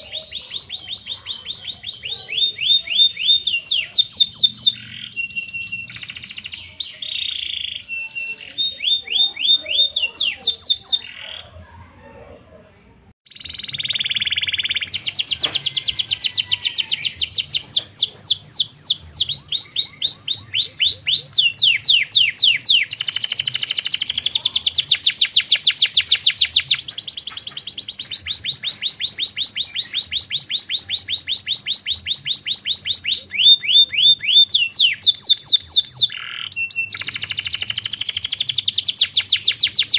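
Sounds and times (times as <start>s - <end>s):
canary singing trills: 0.0s - 12.3s, 13.2s - 39.9s.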